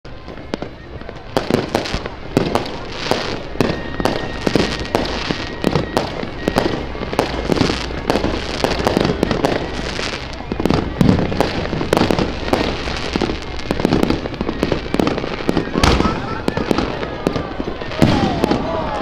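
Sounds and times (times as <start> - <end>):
continuous crackle: 0.0 - 19.0
firecrackers banging: 0.1 - 19.0.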